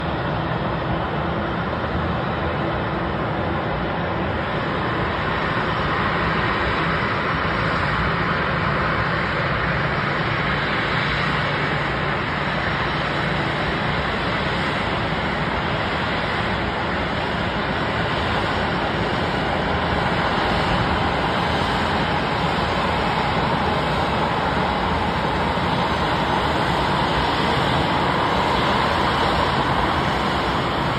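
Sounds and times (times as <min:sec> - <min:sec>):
airplane cabin noise: 0:00.0 - 0:30.9.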